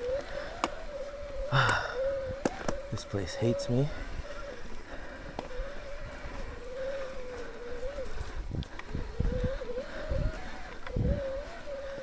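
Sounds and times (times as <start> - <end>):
electric bike motor whining: 0.0 - 12.0.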